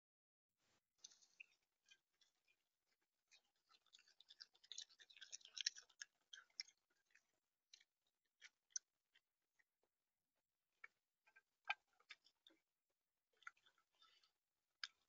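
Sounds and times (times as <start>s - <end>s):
raccoon chewing with crunching clicks: 1.0s - 15.0s.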